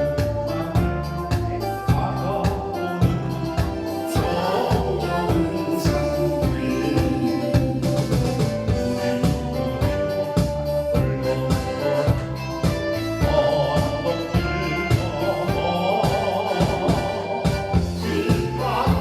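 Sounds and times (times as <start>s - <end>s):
upbeat polka band music: 0.0s - 19.0s
wavering lead melody: 0.0s - 19.0s.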